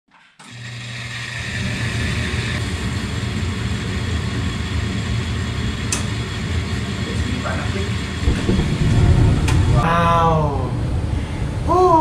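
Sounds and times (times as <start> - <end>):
furnace hum and rumble: 0.4 - 12.0
burner hiss: 1.7 - 11.7.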